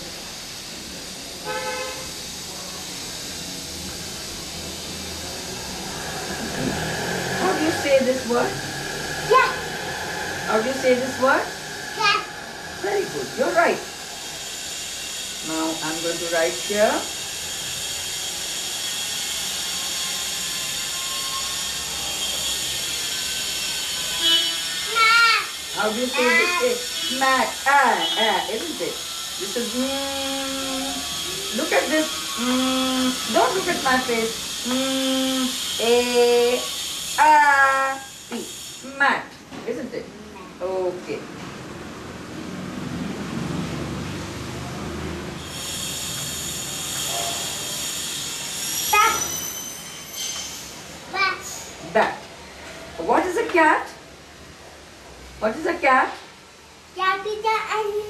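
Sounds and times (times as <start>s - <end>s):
high-pitched squeal: 0.0s - 39.6s, 43.3s - 51.9s
steady hissing noise: 0.0s - 58.0s.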